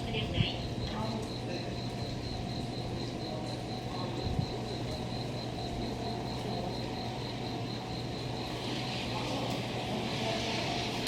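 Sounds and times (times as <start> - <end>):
crickets chirping: 0.0 - 11.0
low train hum: 0.0 - 11.0.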